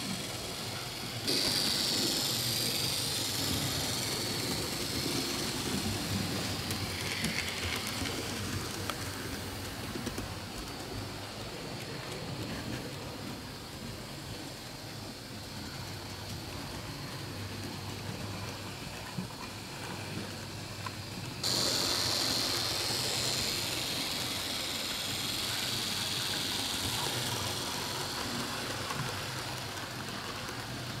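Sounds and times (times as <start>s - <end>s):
bright hiss: 0.0s - 17.2s, 21.4s - 30.9s
model train motor hum: 0.0s - 31.0s
wheels rolling on rails: 0.0s - 31.0s.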